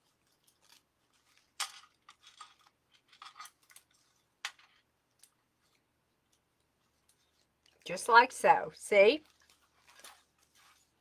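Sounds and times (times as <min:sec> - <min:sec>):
ribbon and mesh rustling: 0:00.0 - 0:08.2, 0:08.8 - 0:11.0.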